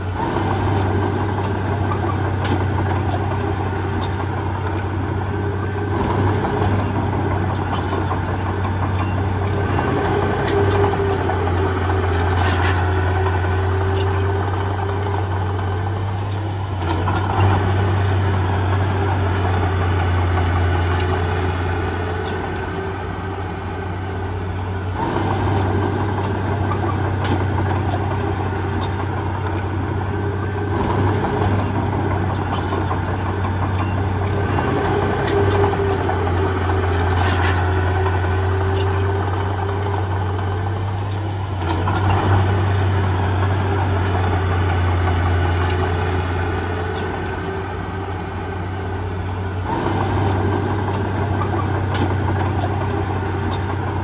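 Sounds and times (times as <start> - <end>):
diesel earthmoving machine running: 0.0 - 54.0.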